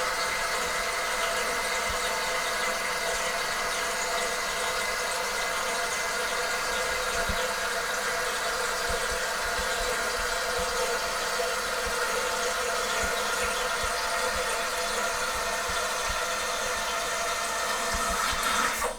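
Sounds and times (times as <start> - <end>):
water hissing through fill valve: 0.0 - 18.9.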